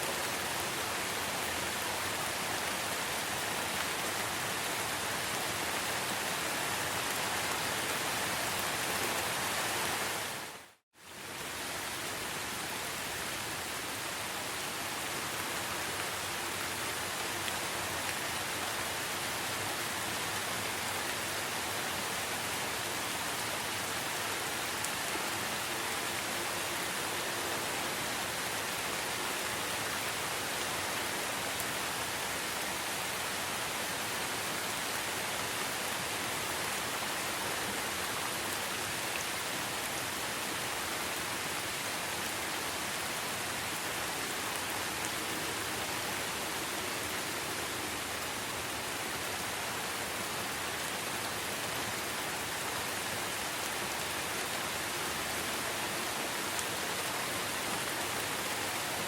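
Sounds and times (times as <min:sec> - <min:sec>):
steady rain in forest: 0:00.0 - 0:59.0.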